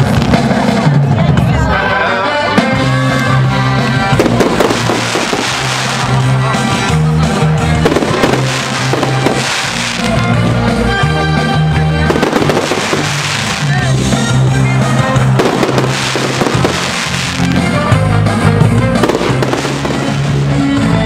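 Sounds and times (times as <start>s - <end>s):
fireworks bursting and crackling: 0.0s - 0.9s, 3.7s - 21.0s
music with heavy bass: 0.0s - 21.0s.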